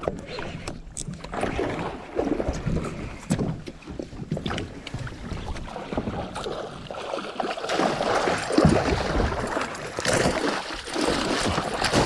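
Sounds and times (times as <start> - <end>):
fish thrashing and splashing water: 1.0 - 12.0.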